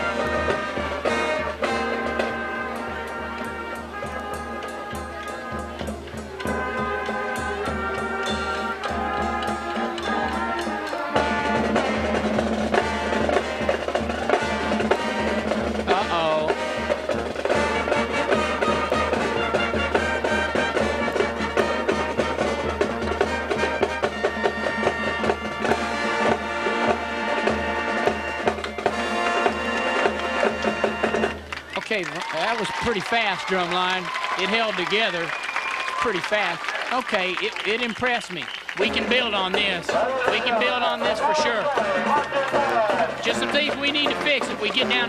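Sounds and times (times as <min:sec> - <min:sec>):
brass melody: 0:00.0 - 0:45.0
drumline snare pattern: 0:00.0 - 0:45.0.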